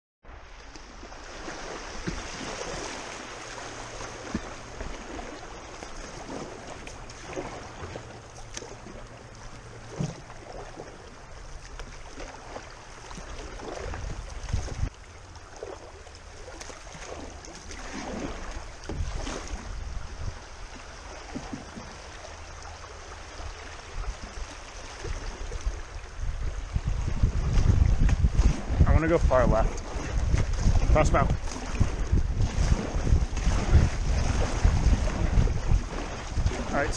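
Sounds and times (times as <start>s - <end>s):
paddle splashing: 0.3s - 36.9s
river current rushing: 0.3s - 36.9s.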